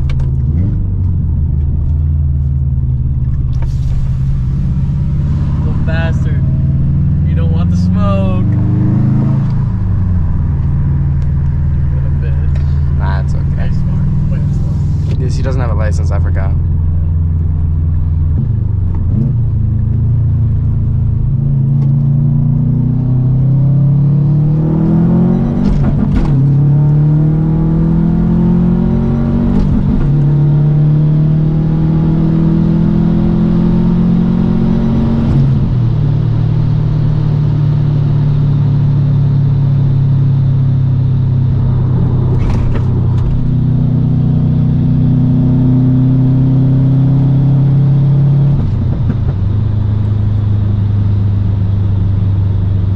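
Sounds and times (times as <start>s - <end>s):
car engine revving through gears: 3.2s - 16.5s, 17.5s - 52.7s.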